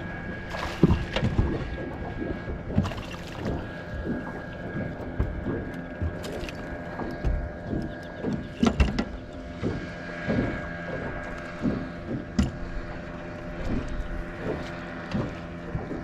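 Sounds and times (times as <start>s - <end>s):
water slapping hull: 0.0s - 16.0s
knocks on boat: 0.5s - 16.0s.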